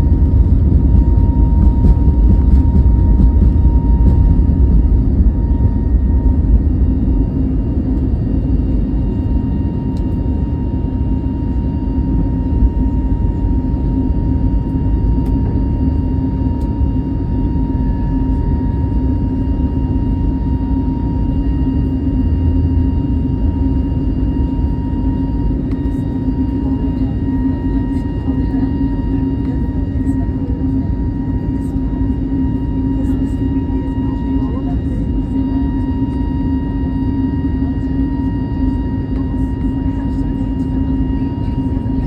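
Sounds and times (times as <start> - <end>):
airplane cabin rumble: 0.0 - 42.0
thin steady whine: 0.0 - 42.0.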